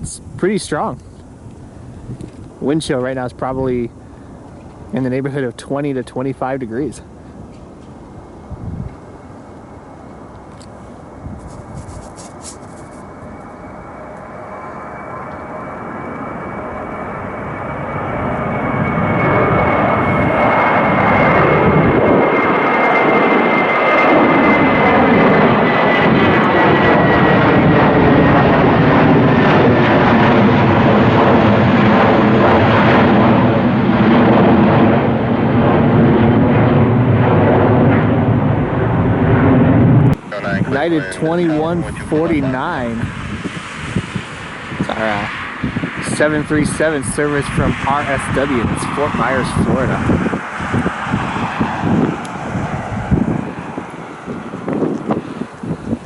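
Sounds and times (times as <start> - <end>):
jet engines roaring and whining: 0.0 - 56.0.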